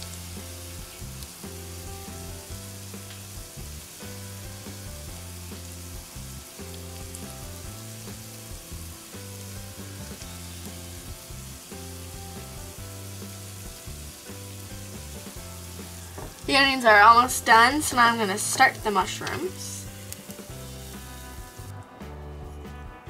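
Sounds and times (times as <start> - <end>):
onions sizzling in a pan: 0.0 - 21.8
soft background music: 0.0 - 23.0.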